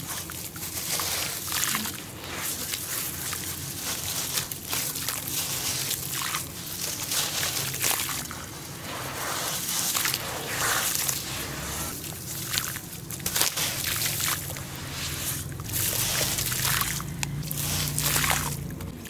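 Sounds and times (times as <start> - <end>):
water sloshing and trickling: 0.0 - 19.0
wet dirt clods crumbling: 0.0 - 19.0.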